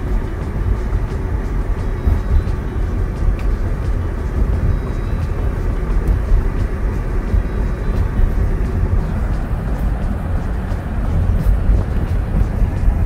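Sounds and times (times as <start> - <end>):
grit ticking under tyres: 0.0 - 13.0
tyres rumbling on unpaved road: 0.0 - 13.0.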